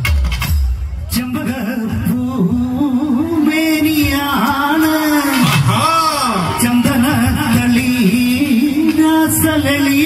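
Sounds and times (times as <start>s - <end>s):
person singing folk song: 1.2s - 10.0s.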